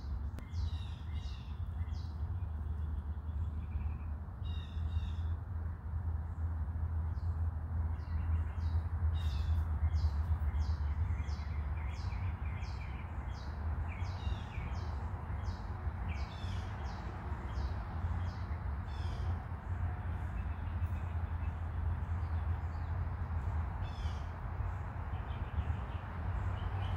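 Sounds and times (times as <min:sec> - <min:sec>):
bird chirping: 0:00.0 - 0:05.4, 0:07.1 - 0:26.9.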